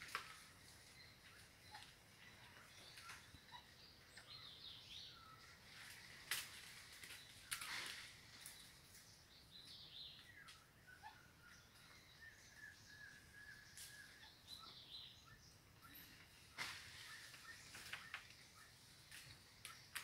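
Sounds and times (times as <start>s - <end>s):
bird chirps: 0.0s - 6.1s, 7.0s - 20.0s.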